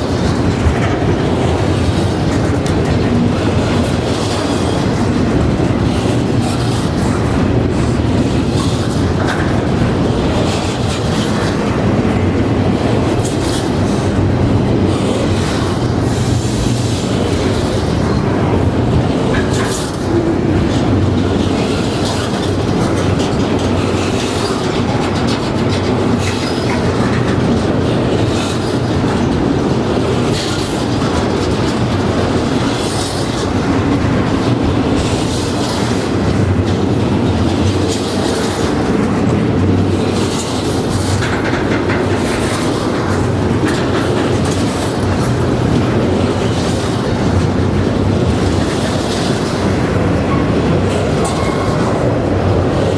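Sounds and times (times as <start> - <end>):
freight train wheels rumbling: 0.0 - 52.9
train wheels clattering over joints: 0.0 - 52.9.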